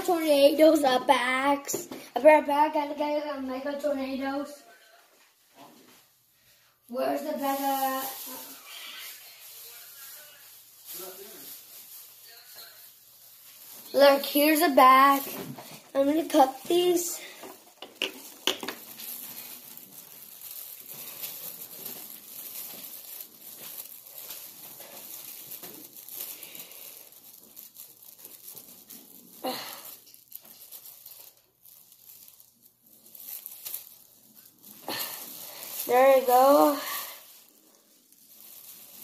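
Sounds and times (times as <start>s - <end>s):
bag crinkling and rustling: 6.9s - 39.0s.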